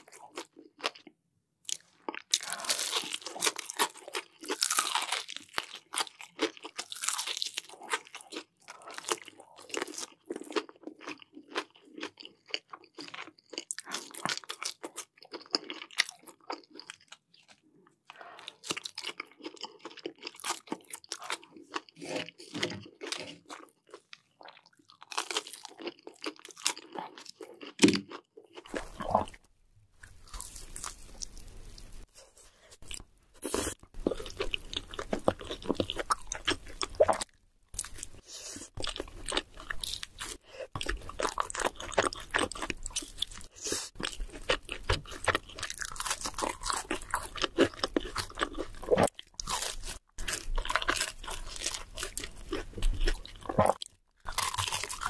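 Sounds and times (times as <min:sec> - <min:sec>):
biting and chewing pizza: 0:01.7 - 0:17.6, 0:18.2 - 0:29.4, 0:30.0 - 0:55.0
crunching fried chicken: 0:01.7 - 0:17.7, 0:18.5 - 0:29.4, 0:30.0 - 0:32.1, 0:32.8 - 0:55.0.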